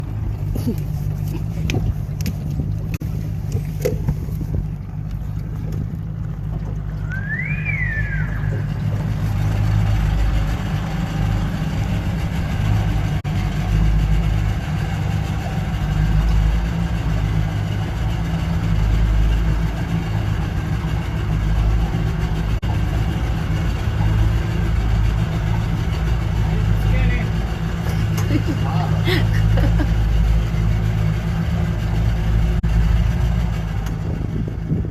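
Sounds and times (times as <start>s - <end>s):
boat motor droning: 0.0s - 34.9s.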